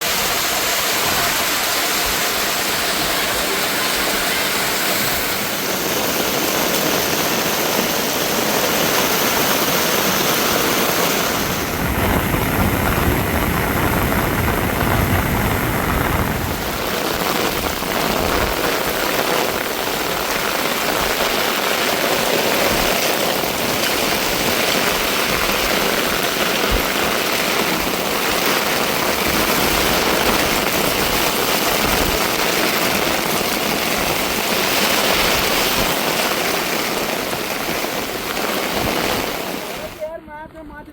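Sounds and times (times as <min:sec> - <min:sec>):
water rushing: 0:00.0 - 0:40.0.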